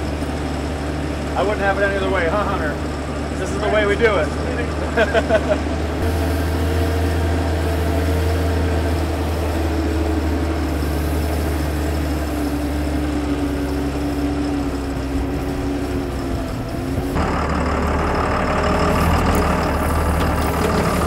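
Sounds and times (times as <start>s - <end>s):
drivetrain whine: 0.0s - 21.0s
vehicle engine running: 0.0s - 21.0s.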